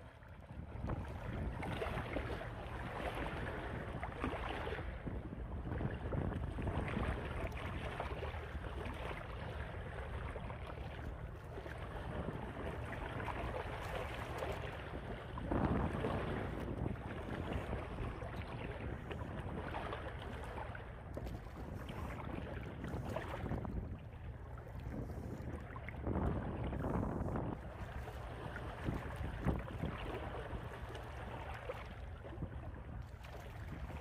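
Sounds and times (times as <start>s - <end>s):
wind rumbling on microphone: 0.0s - 34.0s
shallow water splashing: 5.6s - 34.0s.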